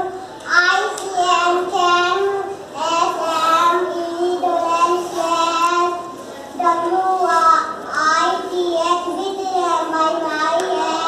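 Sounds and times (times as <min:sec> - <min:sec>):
girl reciting in sing-song chant: 0:00.0 - 0:11.0.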